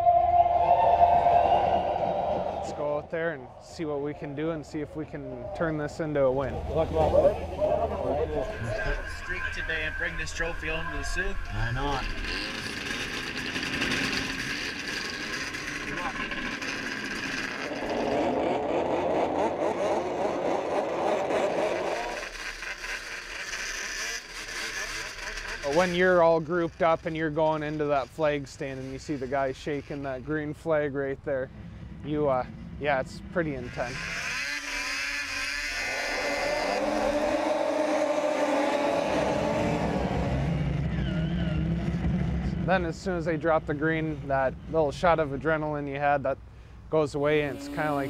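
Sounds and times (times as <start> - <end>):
snowmobile engines racing: 0.0 - 30.3, 32.1 - 45.8, 47.0 - 48.0.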